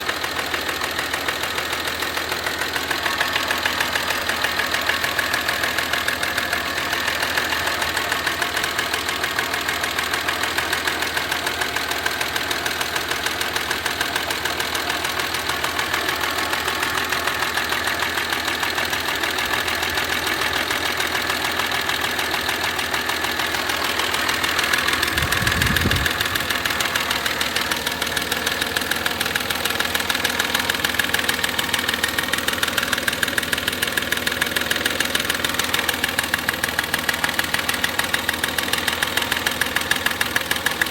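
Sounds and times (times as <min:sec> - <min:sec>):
engine with rapid knocking: 0:00.0 - 0:40.9.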